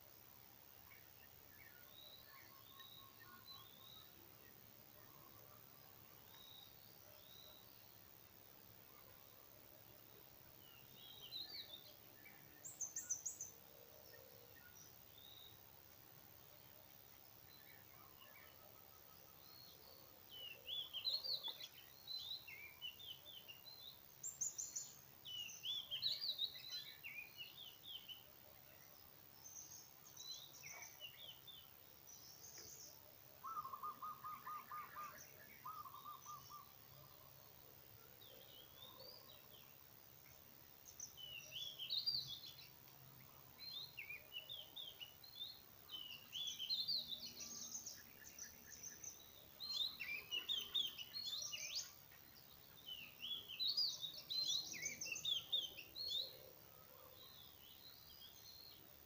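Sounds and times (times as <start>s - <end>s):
birds singing and chirping: 0.9s - 8.1s, 16.5s - 37.6s, 38.2s - 59.0s.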